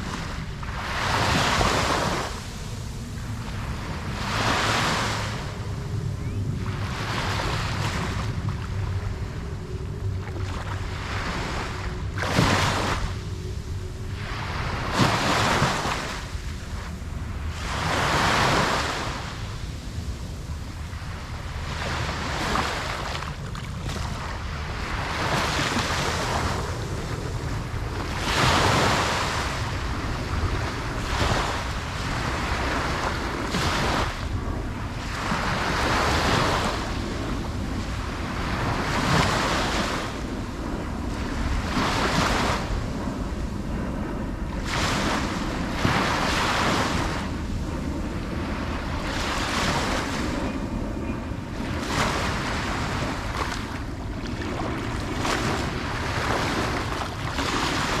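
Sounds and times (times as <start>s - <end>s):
ocean waves breaking on shore: 0.0s - 58.0s
wind on microphone: 0.0s - 58.0s.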